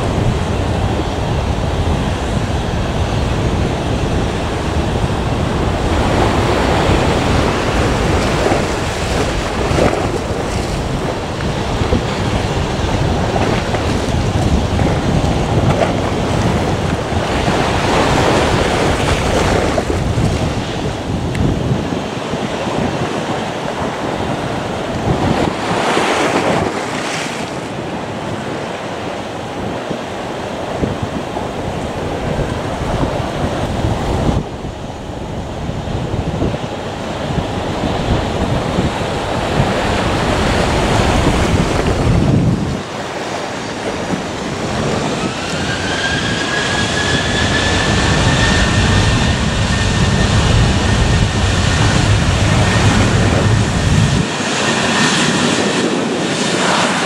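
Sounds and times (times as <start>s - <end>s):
aircraft engine whine: 0.0s - 57.0s
low rumble of plane: 0.0s - 57.0s
wind on microphone: 0.0s - 57.0s.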